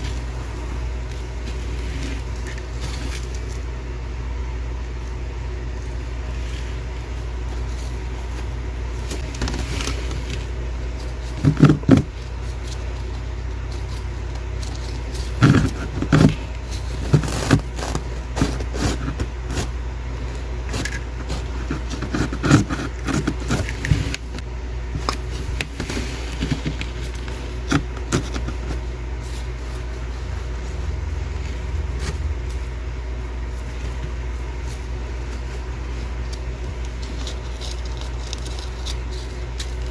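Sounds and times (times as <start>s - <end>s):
freezer frost crunching and cracking: 0.0s - 4.0s, 4.6s - 39.9s
steady low hum: 0.0s - 39.9s.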